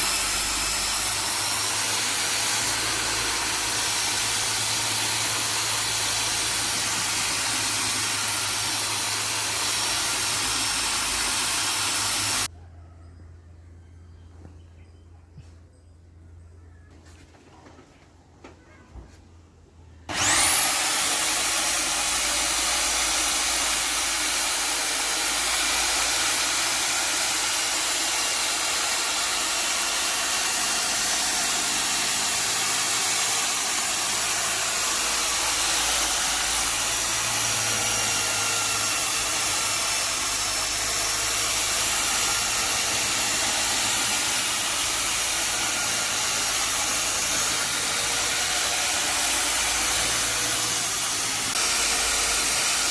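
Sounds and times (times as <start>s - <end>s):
high-speed electric motor whining: 0.0s - 12.5s, 20.1s - 52.9s.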